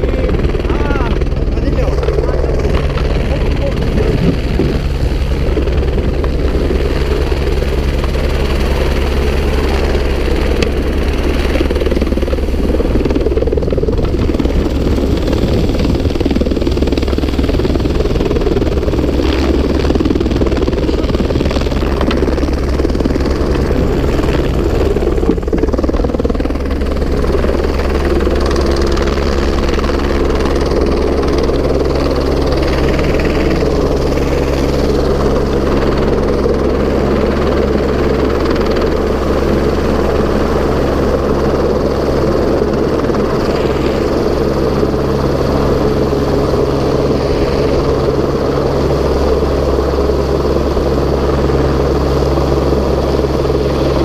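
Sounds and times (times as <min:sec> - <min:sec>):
helicopter rotor and turbine drone: 0:00.0 - 0:54.0.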